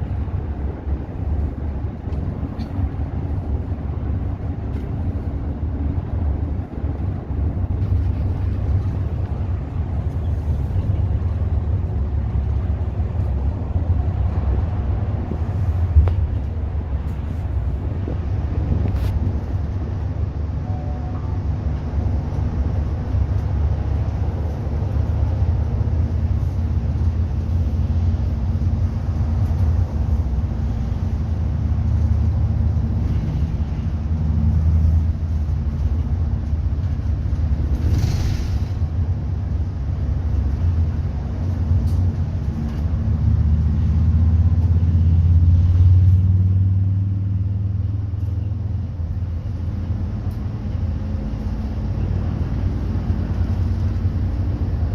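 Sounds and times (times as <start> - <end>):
bus engine rumble: 0.0 - 54.9
road noise: 0.0 - 54.9.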